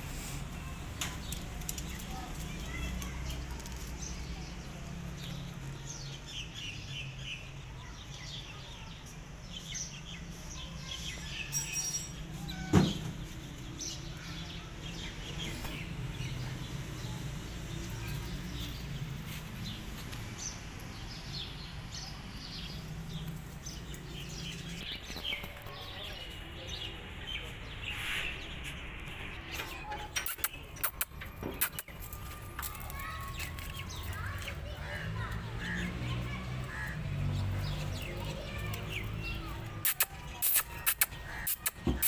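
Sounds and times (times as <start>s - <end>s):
birds chirping: 0.4s - 42.0s.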